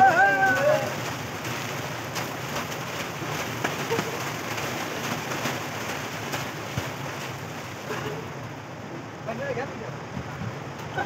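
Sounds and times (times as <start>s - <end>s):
water splashing in a pool: 0.0s - 9.2s.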